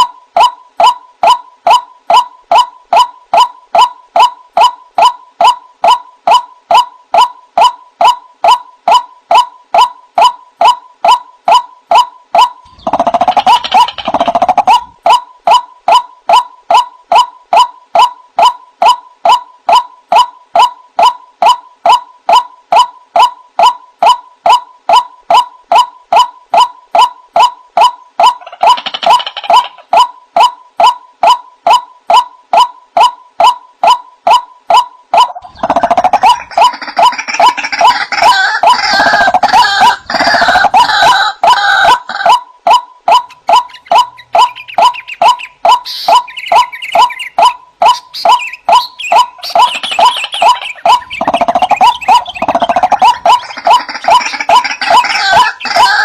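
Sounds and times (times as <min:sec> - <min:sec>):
nasal bird calls: 0:00.0 - 0:56.0
rough overlapping bird calls: 0:00.0 - 0:56.0.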